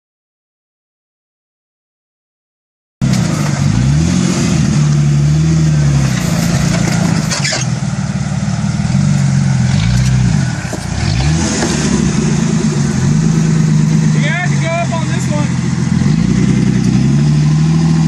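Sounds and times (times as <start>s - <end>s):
car engine revving: 3.0s - 18.0s.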